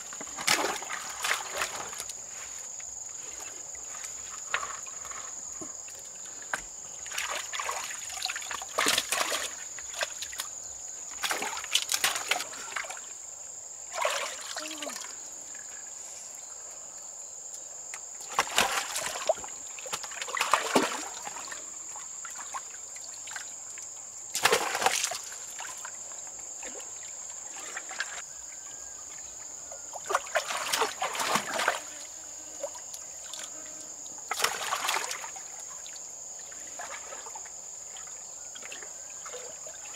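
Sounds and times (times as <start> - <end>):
water splashing and sloshing: 0.0 - 13.2, 13.8 - 16.0, 18.2 - 28.2, 29.8 - 33.5, 34.2 - 39.9.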